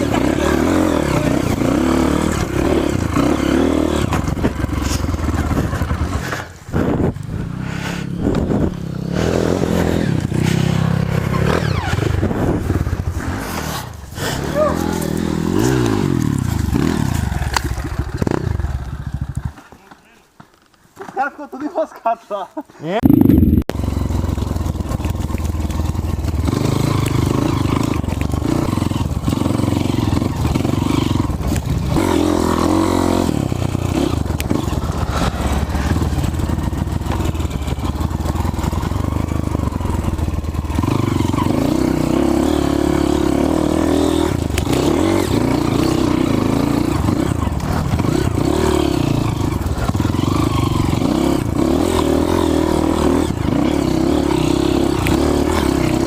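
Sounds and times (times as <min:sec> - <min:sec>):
dirt bike engine revving: 0:00.0 - 0:19.6, 0:23.0 - 0:56.0
bike rattling: 0:00.0 - 0:21.9, 0:23.0 - 0:56.0.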